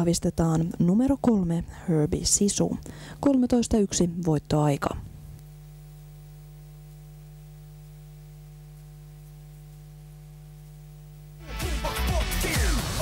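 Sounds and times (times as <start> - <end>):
electrical mains hum: 0.0 - 12.8.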